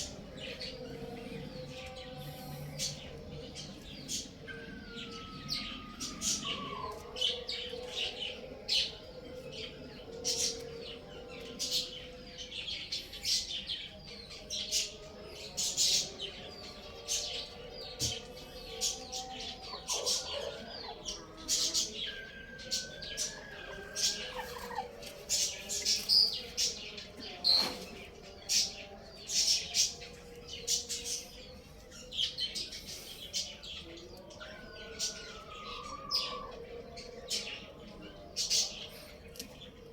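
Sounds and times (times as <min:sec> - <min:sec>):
small birds chirping rapidly: 0:00.0 - 0:39.9.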